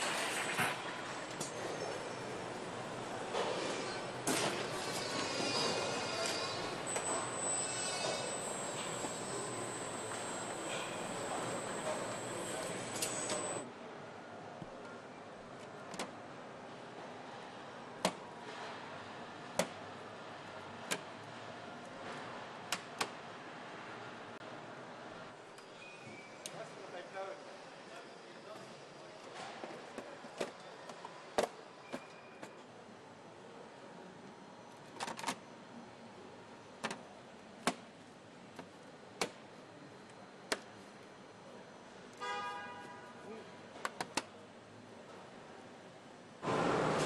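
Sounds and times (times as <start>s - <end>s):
steady background noise: 0.0s - 47.0s.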